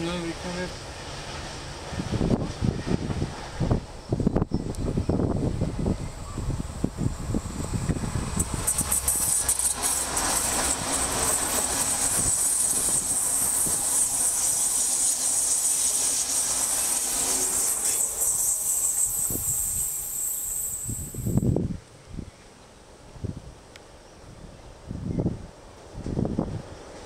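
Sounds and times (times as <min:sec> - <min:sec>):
train passing at speed: 0:00.0 - 0:21.8, 0:22.8 - 0:27.0.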